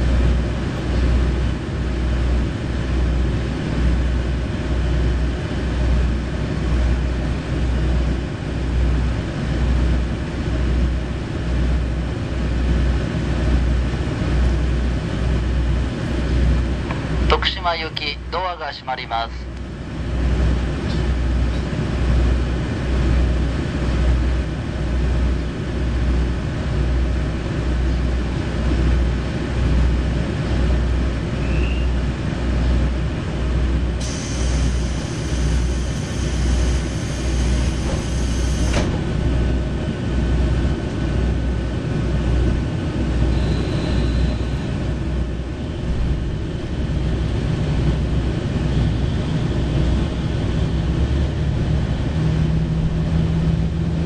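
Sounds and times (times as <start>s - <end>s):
diesel railcar engine throbbing: 0.0s - 54.0s.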